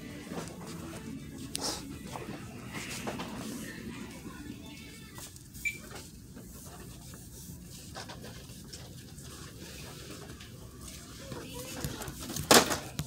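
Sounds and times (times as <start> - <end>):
store background noise: 0.0 - 13.0.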